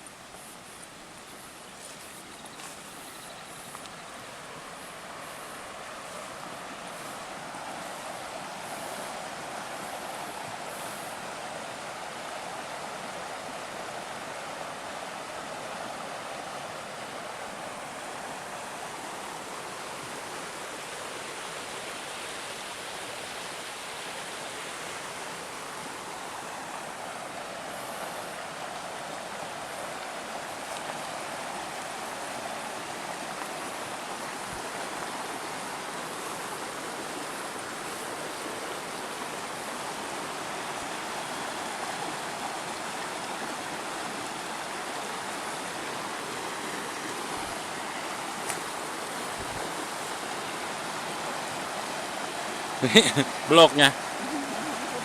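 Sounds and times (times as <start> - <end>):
water rushing along a canal: 0.0 - 55.0.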